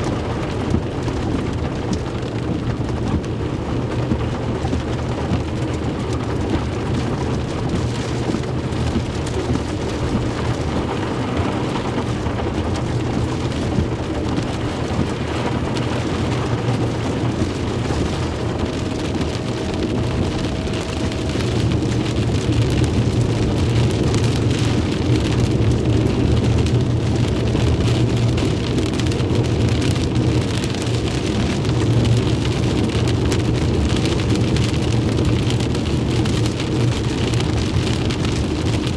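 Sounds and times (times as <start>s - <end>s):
heavy rain pouring: 0.0s - 38.9s
low thunder rumble: 0.0s - 38.9s.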